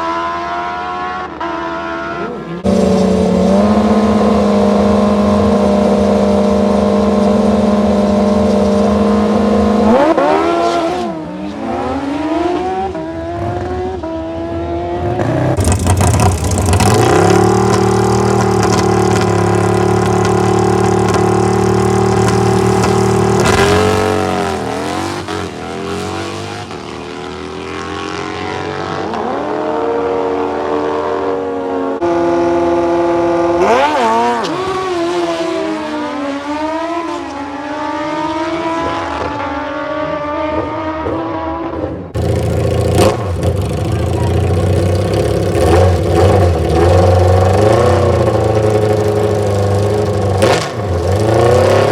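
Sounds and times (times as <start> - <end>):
racing engines droning: 0.0 - 51.9.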